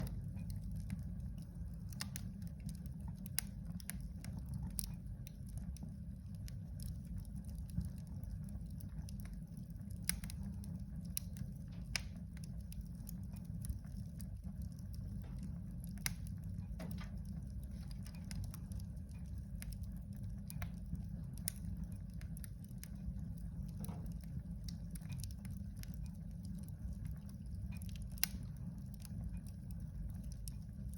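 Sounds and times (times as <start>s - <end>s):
low rumble: 0.0s - 30.9s
wood fire crackling: 0.0s - 30.9s.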